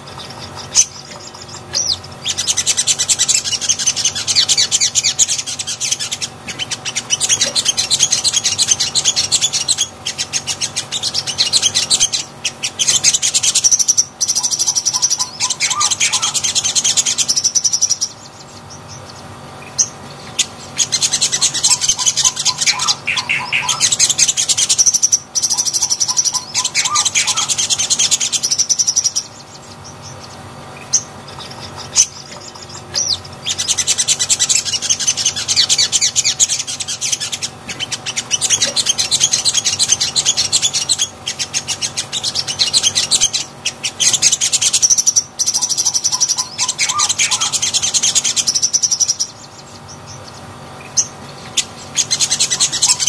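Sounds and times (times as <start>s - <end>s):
bird high chattering song: 0.0s - 53.0s.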